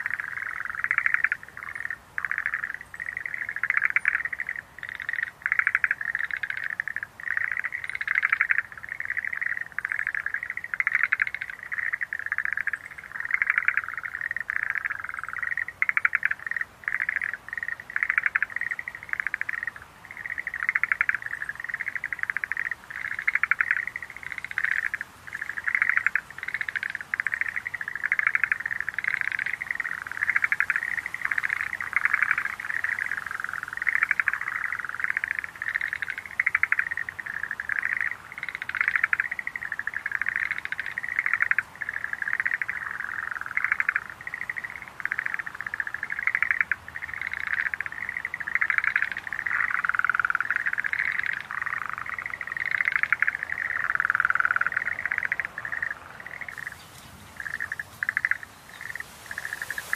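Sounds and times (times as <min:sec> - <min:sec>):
tree frogs trilling: 0:00.0 - 0:59.9.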